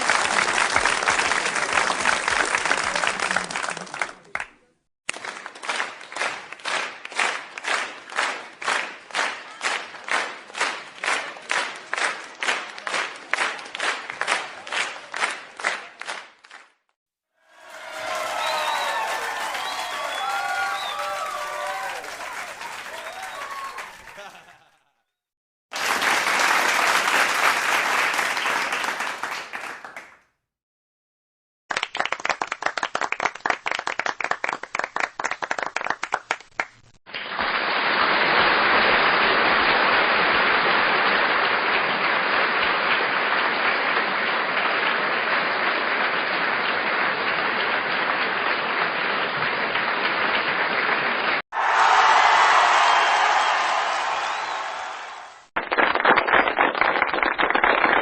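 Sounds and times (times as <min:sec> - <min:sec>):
crowd applauding: 0:00.0 - 0:16.8, 0:17.5 - 0:24.9, 0:25.7 - 0:30.2, 0:31.7 - 0:58.0
large crowd applauding: 0:00.0 - 0:16.8, 0:17.4 - 0:24.9, 0:25.7 - 0:30.2, 0:31.7 - 0:58.0
small group clapping: 0:00.0 - 0:24.9, 0:25.7 - 0:30.4, 0:31.7 - 0:58.0.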